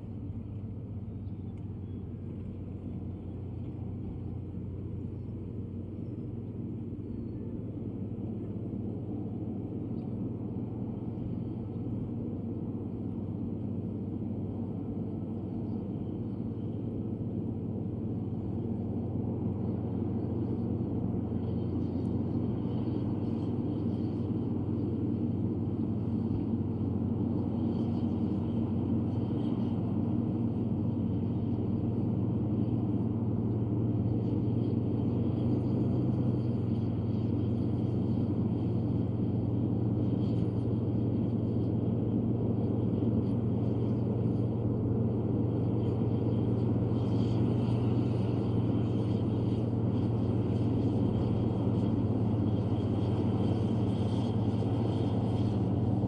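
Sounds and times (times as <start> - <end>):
bulldozer diesel engine: 7.7 - 56.0.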